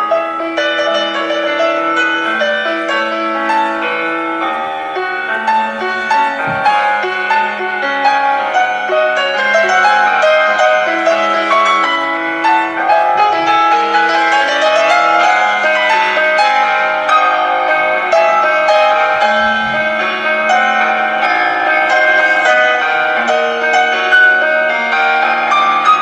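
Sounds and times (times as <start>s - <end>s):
classical piano music: 0.0s - 26.0s.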